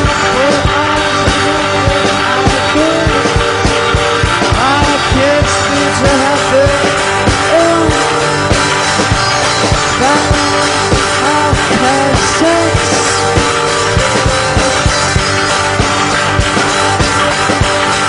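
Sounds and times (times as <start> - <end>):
drums steady beat: 0.0 - 18.0
electric guitar bending notes: 0.0 - 18.0.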